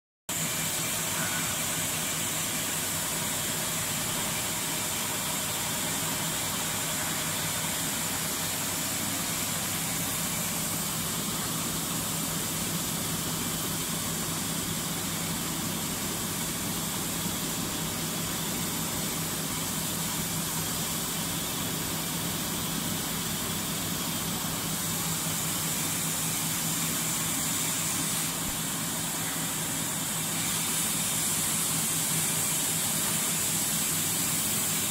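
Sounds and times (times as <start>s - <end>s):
constant high hiss: 0.4s - 34.9s.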